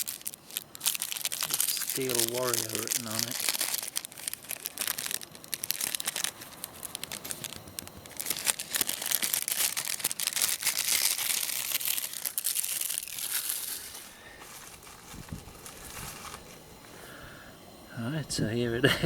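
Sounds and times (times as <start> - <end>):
paper crinkling and tearing: 0.0 - 16.6.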